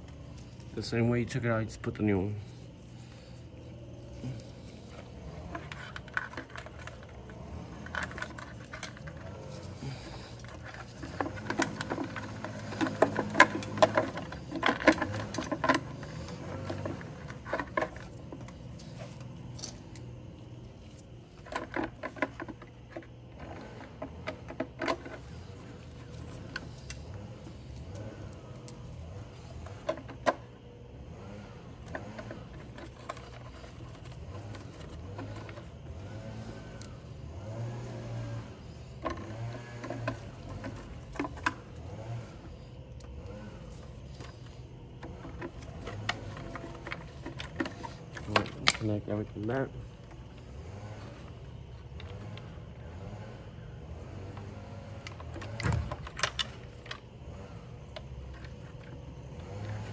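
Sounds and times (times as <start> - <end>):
steady low hum: 0.0 - 59.9
clicks taps and rattles of parts: 4.4 - 30.5, 31.8 - 36.9, 37.6 - 42.3, 42.9 - 52.6, 54.2 - 59.9.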